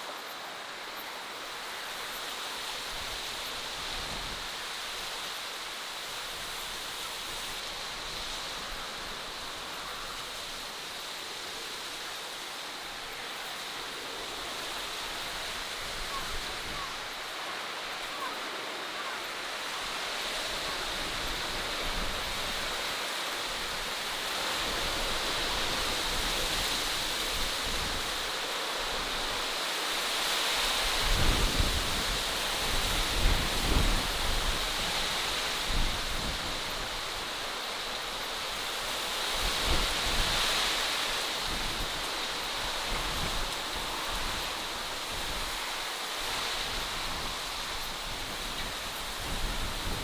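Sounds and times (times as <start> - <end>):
steady rushing hiss: 0.0 - 50.0.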